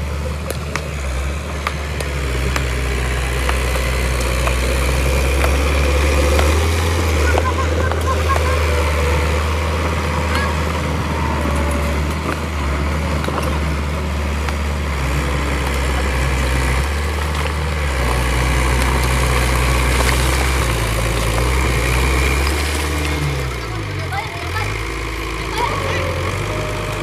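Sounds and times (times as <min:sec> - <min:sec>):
bulldozer diesel engine drone: 0:00.0 - 0:27.0.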